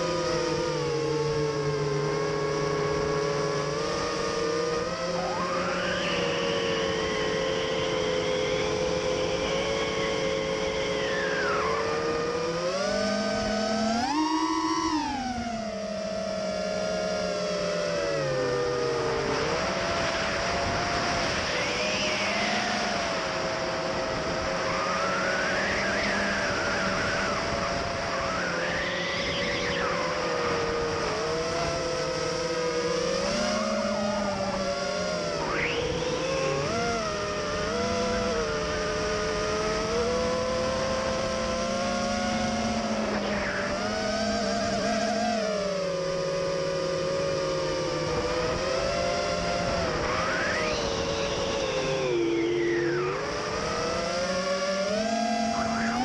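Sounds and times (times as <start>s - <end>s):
quadcopter motors buzzing whine: 0.0s - 56.0s.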